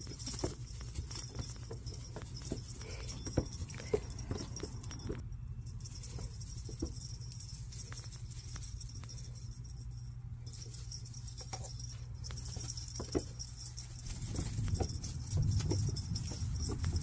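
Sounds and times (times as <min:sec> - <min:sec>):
kitten tapping and rustling: 0:00.0 - 0:17.0
low outdoor rumble: 0:00.0 - 0:17.0.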